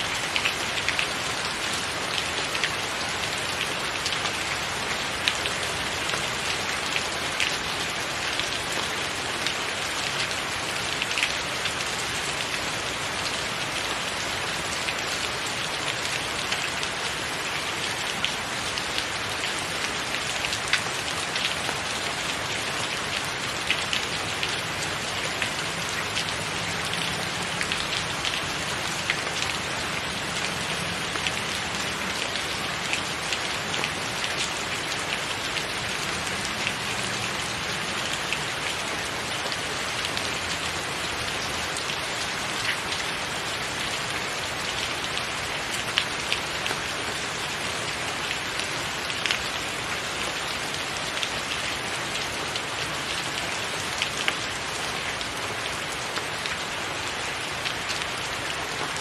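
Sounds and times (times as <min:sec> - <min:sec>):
rain on a tiled roof: 0:00.0 - 0:59.0.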